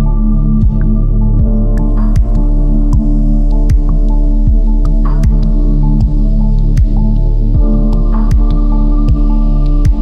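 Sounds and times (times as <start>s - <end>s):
deep kick drum: 0.0s - 10.0s
low synth drone: 0.0s - 10.0s.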